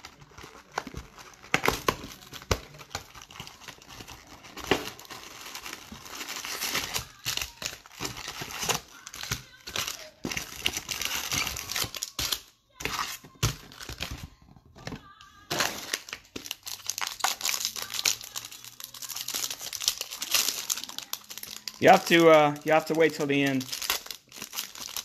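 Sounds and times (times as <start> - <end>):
foil wrappers crinkling: 0.0 - 25.0.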